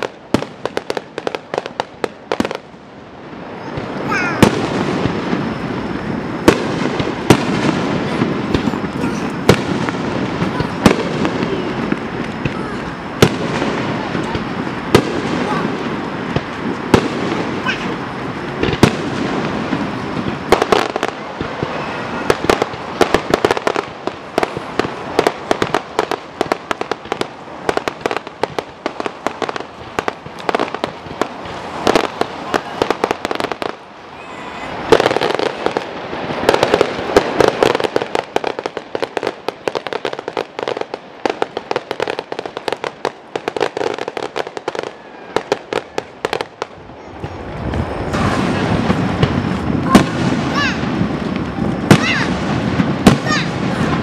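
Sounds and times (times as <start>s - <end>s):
fireworks popping and crackling: 0.0s - 54.0s.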